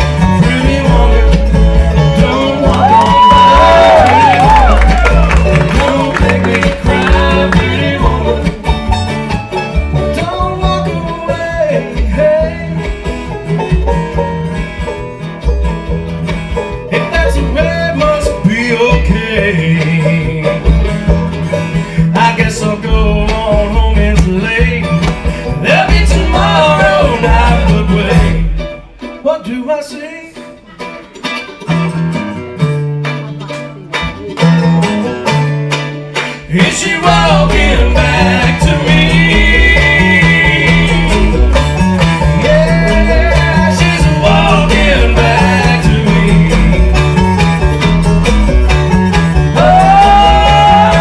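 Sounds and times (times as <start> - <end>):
acoustic guitar: 0.0 - 51.0
banjo: 0.0 - 51.0
mandolin: 0.0 - 51.0
upright bass: 0.0 - 51.0.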